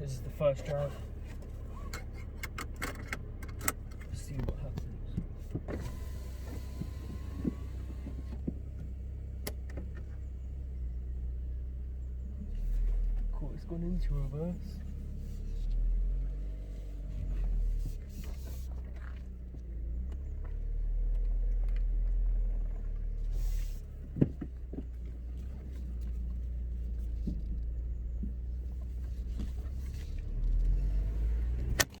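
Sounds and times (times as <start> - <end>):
car engine rumbling at low revs: 0.0 - 32.0.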